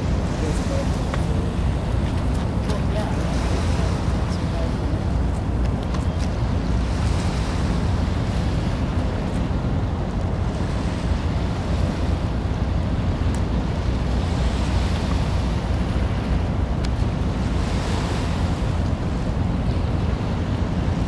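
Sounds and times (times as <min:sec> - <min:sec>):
open water: 0:00.0 - 0:21.0
wind buffeting microphone: 0:00.0 - 0:21.0.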